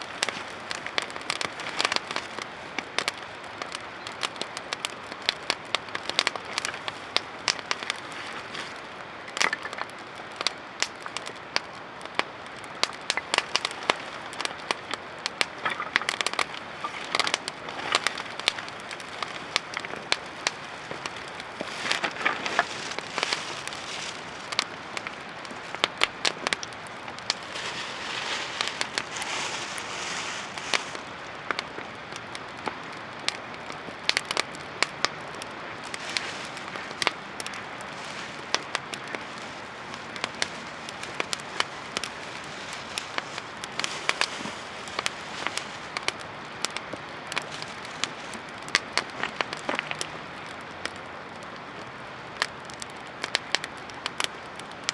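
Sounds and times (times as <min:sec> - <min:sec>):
campfire crackling and popping: 0:00.0 - 0:54.9
fire hissing: 0:00.0 - 0:54.9.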